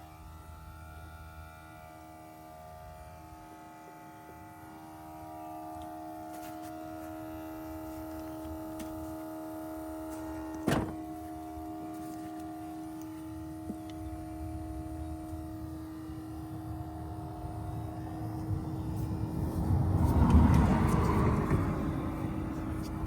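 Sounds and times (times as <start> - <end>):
electric air pump humming: 0.0 - 23.0.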